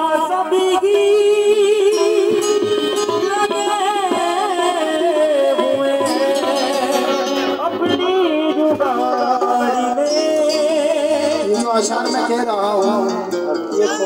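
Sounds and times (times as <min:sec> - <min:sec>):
man singing: 0:00.0 - 0:02.4, 0:03.5 - 0:14.0
harmonium playing: 0:00.0 - 0:14.0.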